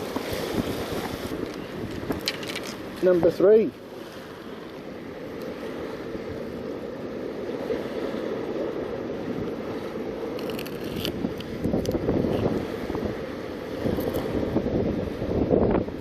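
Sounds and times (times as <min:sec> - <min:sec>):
sea washing against rocks: 0:00.0 - 0:16.0
wind buffeting microphone: 0:00.0 - 0:16.0.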